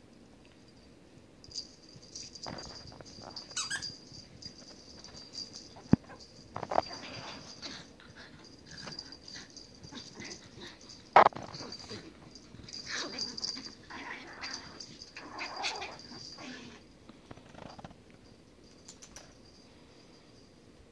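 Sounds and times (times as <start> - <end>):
dog play noises: 1.5 - 19.6.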